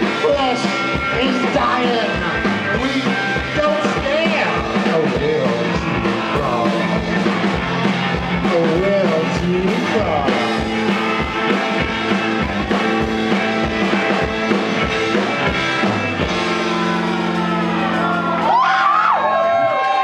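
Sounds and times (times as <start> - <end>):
sliding high guitar notes: 0.0 - 19.4
live rock band playing: 0.0 - 19.6
drum beats: 0.0 - 19.9.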